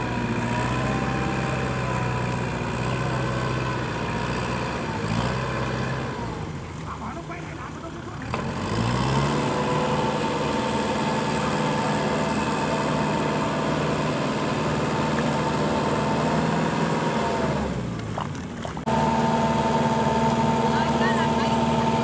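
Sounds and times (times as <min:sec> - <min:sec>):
another tractor engine: 0:00.0 - 0:22.0
rotary tiller churning water: 0:00.0 - 0:22.0
tractor diesel engine under load: 0:00.0 - 0:22.0.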